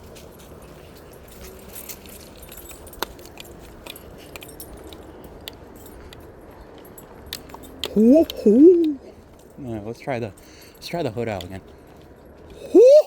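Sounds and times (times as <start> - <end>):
small clicks and rustles: 0.0 - 12.6
faint background hum: 0.0 - 13.0.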